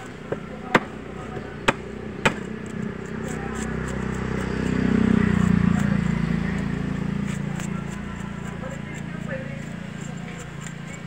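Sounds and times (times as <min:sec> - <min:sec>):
motor vehicle passing: 0:00.0 - 0:11.0.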